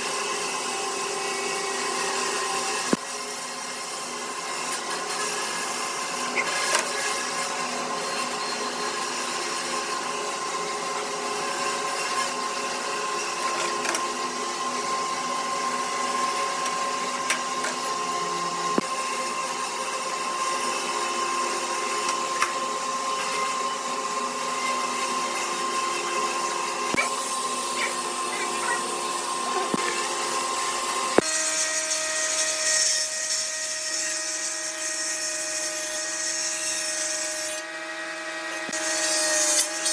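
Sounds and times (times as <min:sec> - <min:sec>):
power tool motor whining: 0:00.0 - 0:39.9.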